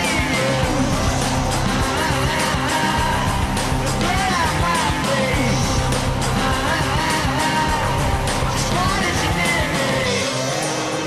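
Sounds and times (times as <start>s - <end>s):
loud rock music: 0.0s - 11.0s.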